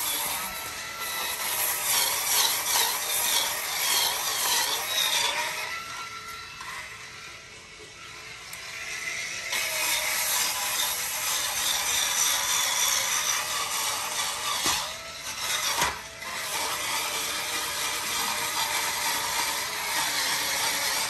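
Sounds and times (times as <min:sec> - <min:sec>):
thin motor whine: 0:00.0 - 0:21.0.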